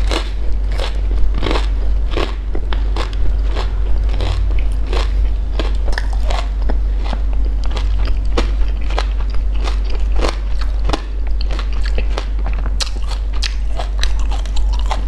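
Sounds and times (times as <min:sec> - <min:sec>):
crunchy chewing: 0:00.0 - 0:15.0
low steady hum: 0:00.0 - 0:15.0.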